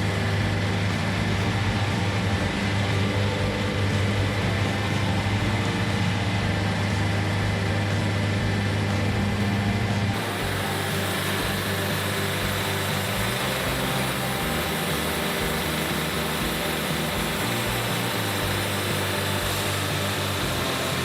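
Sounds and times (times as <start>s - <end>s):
machine engine running: 0.0s - 21.0s.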